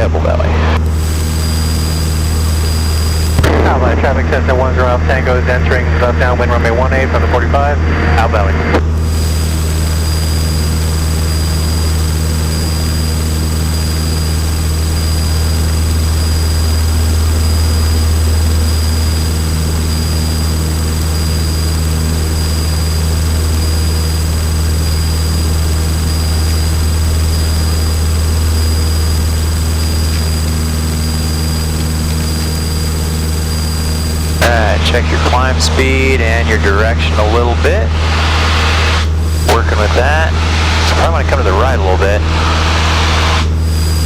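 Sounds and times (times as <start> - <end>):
high-pitched whine: 0.0 - 44.0
propeller plane engine drone: 0.0 - 44.0.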